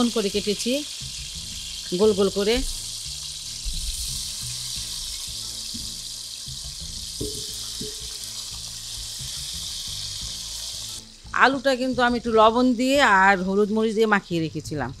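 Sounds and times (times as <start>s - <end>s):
potatoes sizzling in oil: 0.0s - 15.0s.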